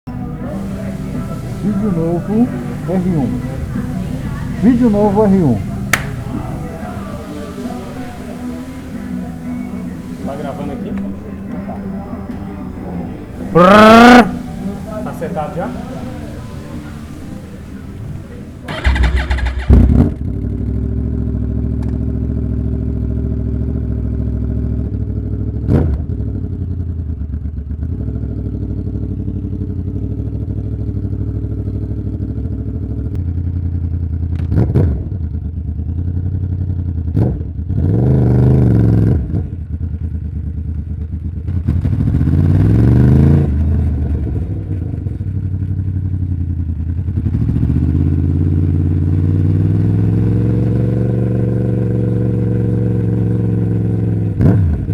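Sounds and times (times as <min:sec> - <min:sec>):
motorcycle engine idling and revving: 0:00.0 - 0:54.9.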